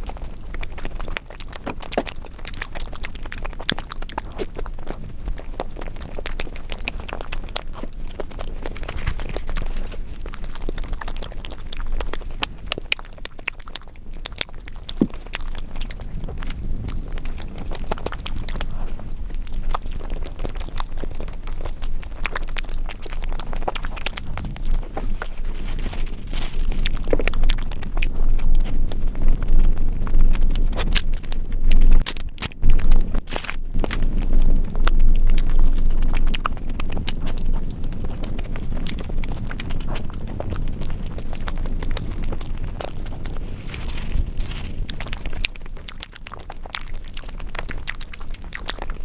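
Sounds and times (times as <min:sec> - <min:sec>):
chewing and mouth sounds: 0:00.0 - 0:49.0
steady low rumble: 0:00.0 - 0:49.0.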